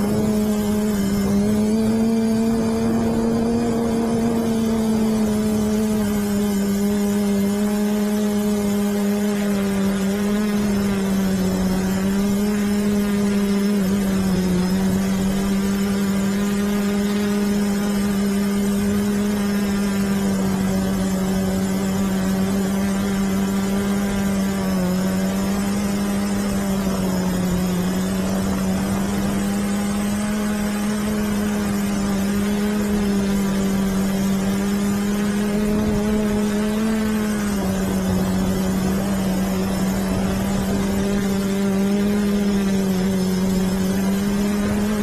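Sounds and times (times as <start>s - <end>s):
drone motors buzzing: 0.0s - 45.0s.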